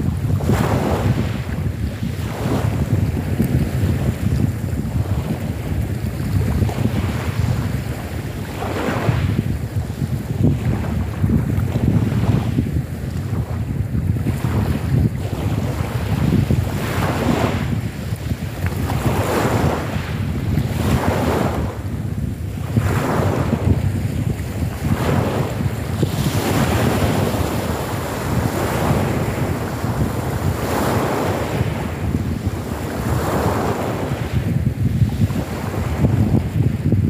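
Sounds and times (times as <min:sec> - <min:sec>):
waves washing over pebble beach: 0:00.0 - 0:37.0
wind buffeting microphone: 0:00.0 - 0:37.0.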